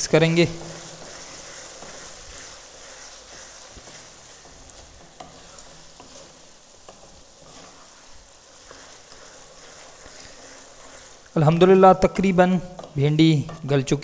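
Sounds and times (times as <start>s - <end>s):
okra sizzling in oil: 0.0s - 14.0s
wooden spatula scraping and tapping pot: 0.0s - 14.0s.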